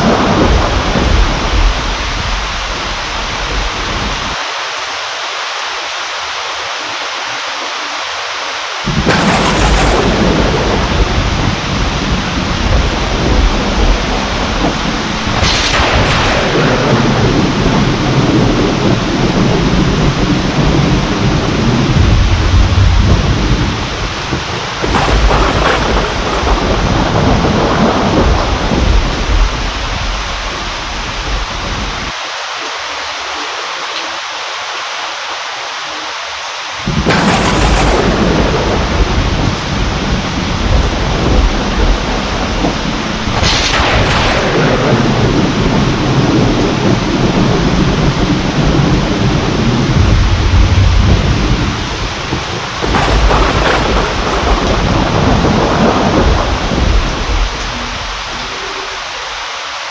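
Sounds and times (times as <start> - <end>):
thunder rumbling and cracking: 0.0 - 4.4, 8.8 - 32.2, 36.8 - 59.4
heavy rain falling: 0.0 - 59.9.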